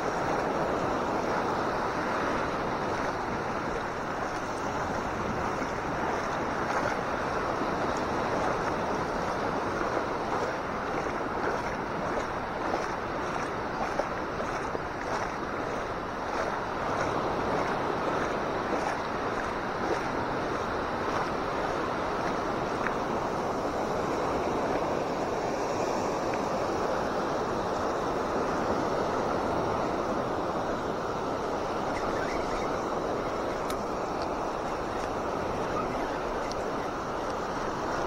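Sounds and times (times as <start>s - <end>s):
small waves breaking on beach: 0.0s - 38.0s.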